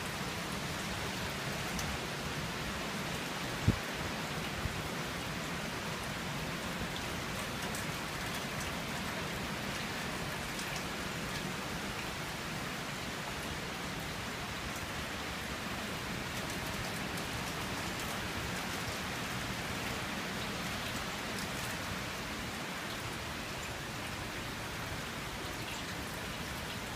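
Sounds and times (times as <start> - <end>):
heavy rain downpour: 0.0 - 26.9.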